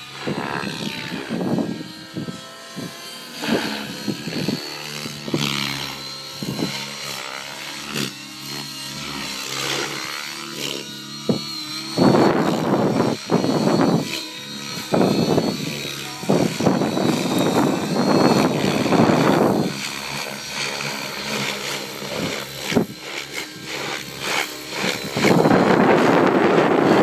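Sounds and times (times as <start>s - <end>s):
electric motor whine: 0.0s - 27.0s
helicopter rotor blade noise: 0.0s - 27.0s.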